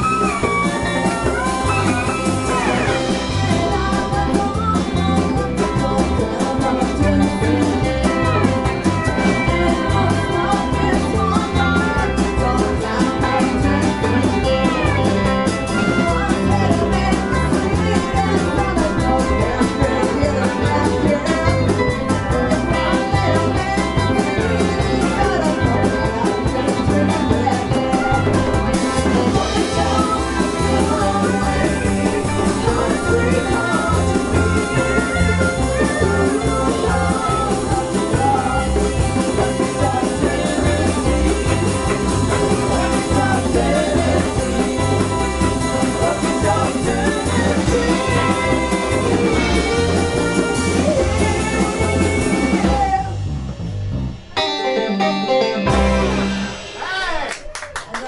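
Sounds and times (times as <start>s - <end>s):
hand drums: 0.0s - 53.2s
drum kit beat: 0.0s - 58.0s
electric bass: 0.0s - 58.0s
electric guitars: 0.0s - 58.0s.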